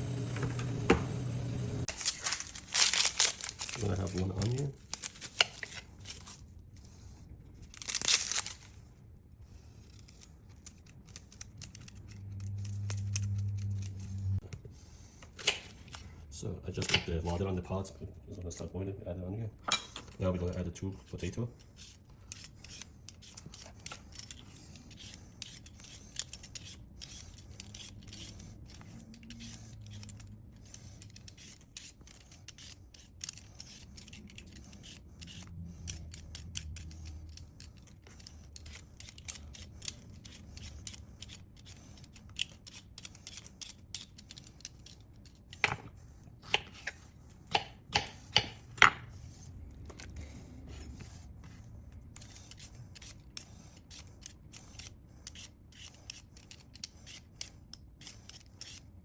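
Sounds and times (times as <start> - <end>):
utensils scraping and clicking: 0.0 - 18.9, 19.6 - 59.0.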